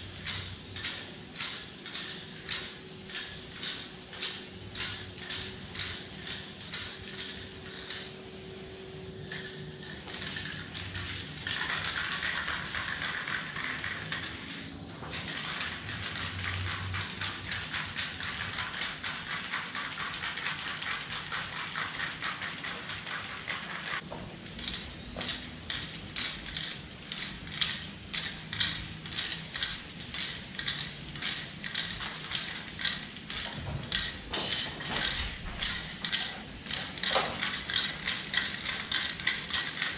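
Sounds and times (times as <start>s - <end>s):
spray can rattling when shaken: 0.0s - 8.4s, 9.2s - 39.9s
spray paint can hissing: 0.0s - 39.9s.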